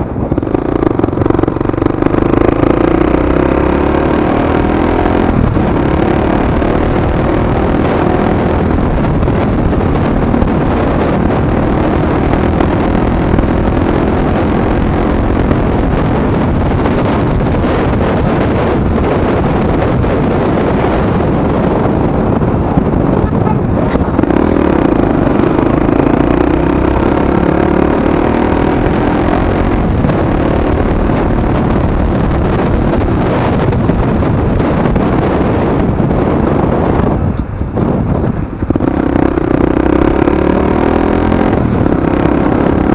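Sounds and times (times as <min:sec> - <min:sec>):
motorcycle engine running: 0:00.0 - 0:42.9
wind on microphone: 0:00.0 - 0:42.9.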